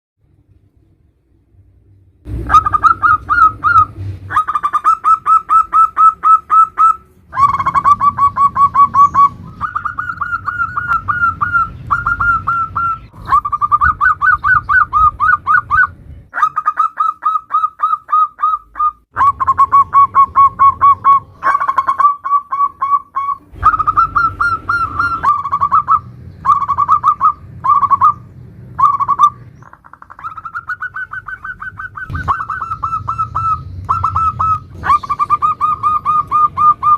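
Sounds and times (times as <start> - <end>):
doves cooing: 2.3 - 36.9.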